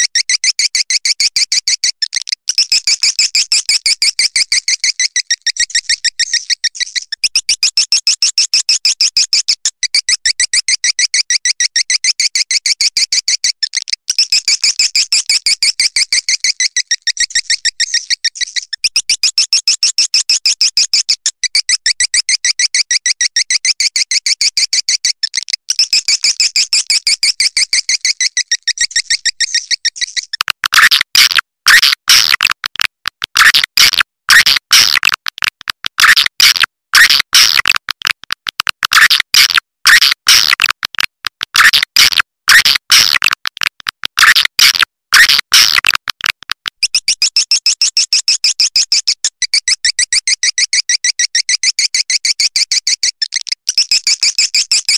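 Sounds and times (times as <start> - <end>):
harsh bird clicking calls: 0.0 - 54.9.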